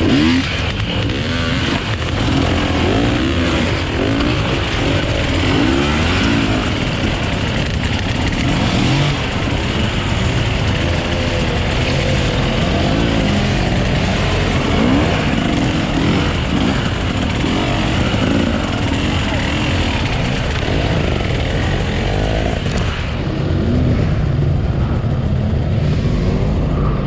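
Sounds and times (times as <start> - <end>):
dirt bike engines revving: 0.0 - 27.0
low rumble: 0.0 - 27.0.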